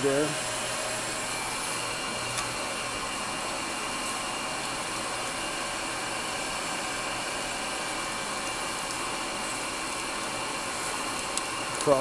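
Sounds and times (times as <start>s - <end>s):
lathe motor whirring: 0.0s - 12.0s.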